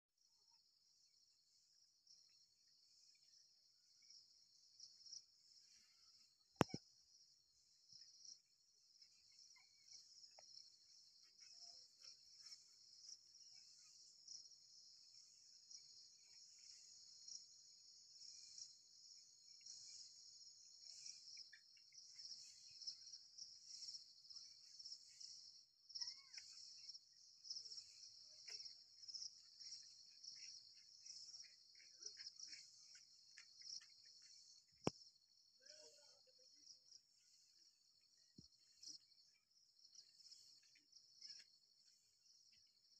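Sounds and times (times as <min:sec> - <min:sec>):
faint insect chirps: 0:00.2 - 0:42.9
high-pitched insect chorus: 0:00.3 - 0:42.9.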